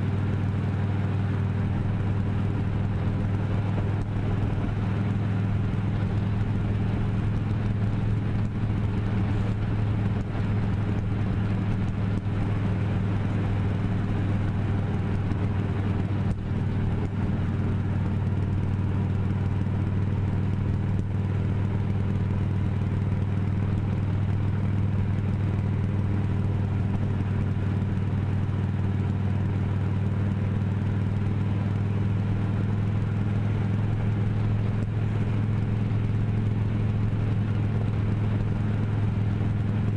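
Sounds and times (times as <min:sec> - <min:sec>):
road noise: 0:00.0 - 0:39.9
vehicle engine humming: 0:00.0 - 0:39.9.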